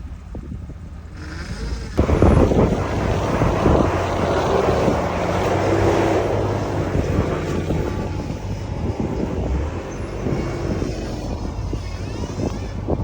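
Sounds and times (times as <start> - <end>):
vehicle engine running: 0.0 - 13.0
loud rushing noise: 2.0 - 13.0.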